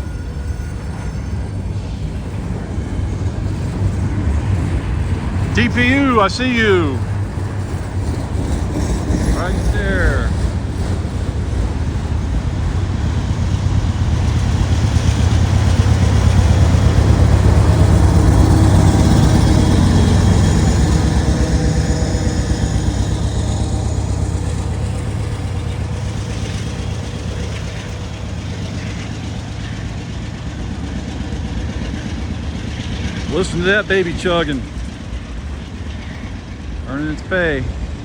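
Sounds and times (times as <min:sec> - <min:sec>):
diesel locomotive engine chugging: 0:00.0 - 0:38.0.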